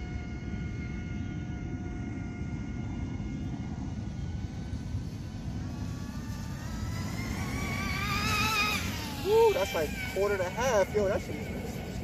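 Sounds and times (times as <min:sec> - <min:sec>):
electric motor whine: 0:00.0 - 0:12.0
low rumbling noise: 0:00.0 - 0:12.0.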